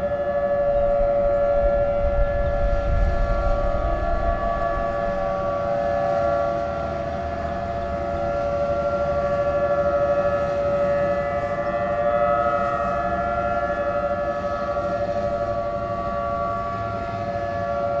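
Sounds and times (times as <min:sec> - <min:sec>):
tornado warning sirens: 0:00.0 - 0:18.0.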